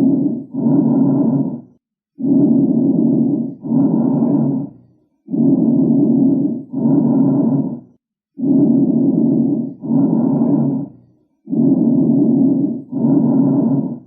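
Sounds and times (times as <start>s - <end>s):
person breathing: 0.0s - 14.0s.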